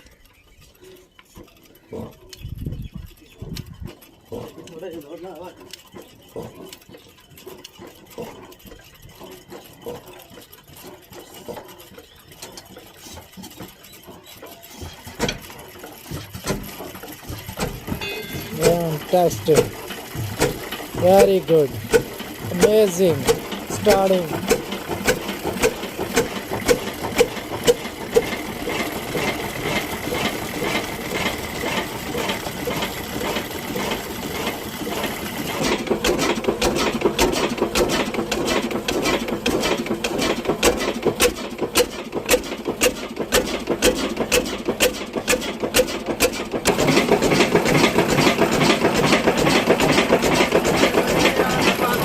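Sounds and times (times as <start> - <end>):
diesel engine knocking: 1.4 - 52.0.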